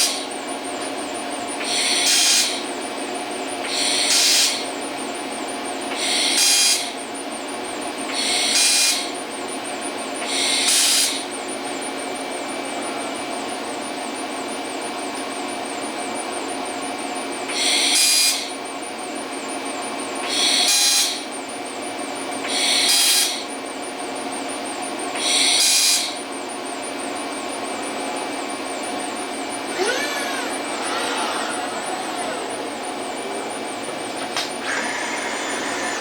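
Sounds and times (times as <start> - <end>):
machinery hum and whine: 0.0 - 36.0.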